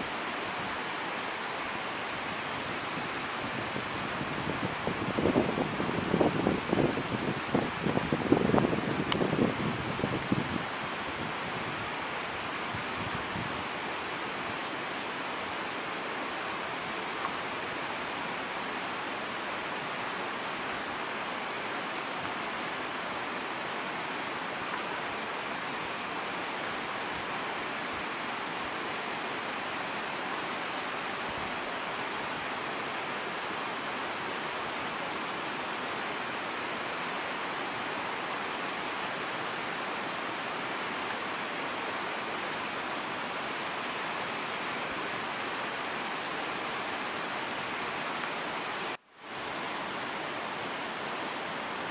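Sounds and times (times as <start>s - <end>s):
steady rushing hiss: 0.0s - 51.9s.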